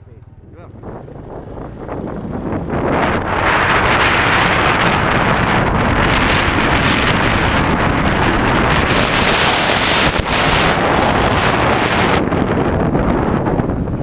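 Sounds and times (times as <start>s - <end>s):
wind buffeting microphone: 0.4s - 14.0s.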